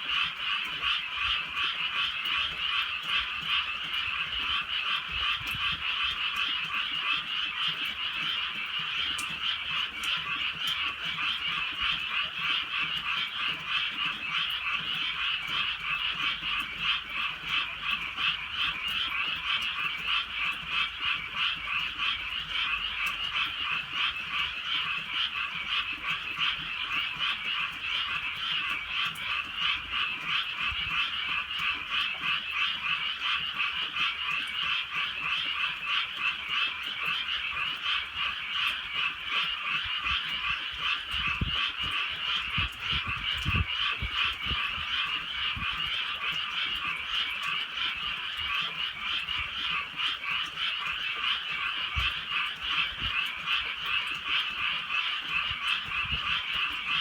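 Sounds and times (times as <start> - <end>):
chorus of frogs croaking: 0.0 - 57.0.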